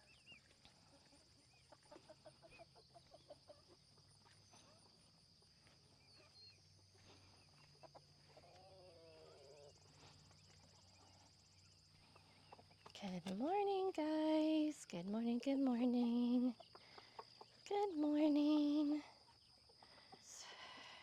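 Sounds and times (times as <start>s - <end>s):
chickens clucking: 0.0s - 14.5s, 15.5s - 20.4s.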